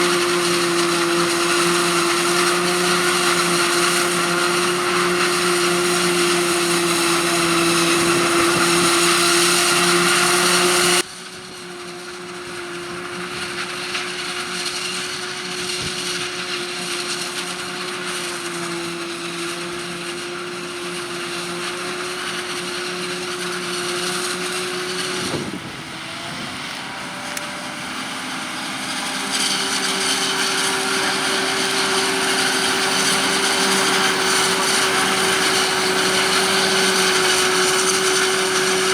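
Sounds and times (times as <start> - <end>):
high whirring whine: 0.0 - 11.1, 12.6 - 38.9
farm machinery engines running: 0.0 - 38.9.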